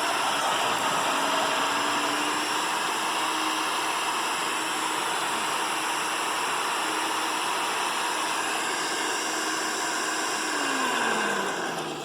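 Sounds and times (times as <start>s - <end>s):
electric wood chipper running: 0.0s - 12.0s.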